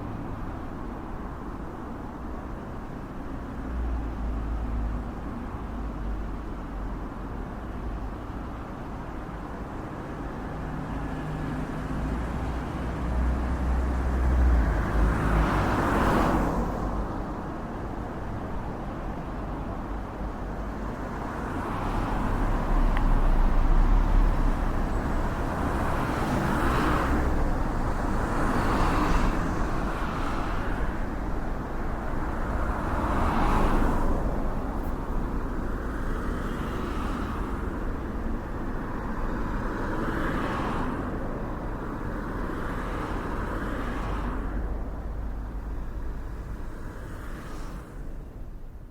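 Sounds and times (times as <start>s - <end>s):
vehicles passing: 0.0s - 48.9s.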